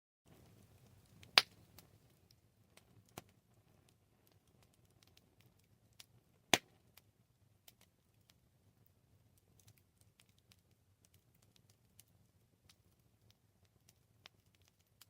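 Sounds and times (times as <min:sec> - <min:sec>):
campfire crackling: 0:00.3 - 0:15.0.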